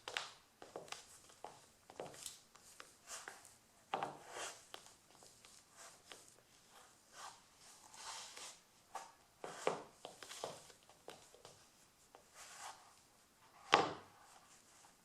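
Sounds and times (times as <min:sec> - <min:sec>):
soft scuffing and rustling: 0:00.0 - 0:15.0.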